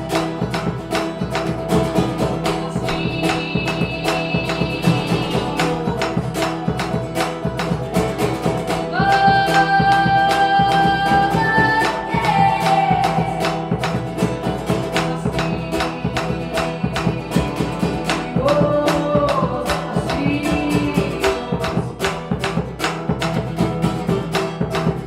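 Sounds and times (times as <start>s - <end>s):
guitar strummed quickly: 0.0s - 25.0s.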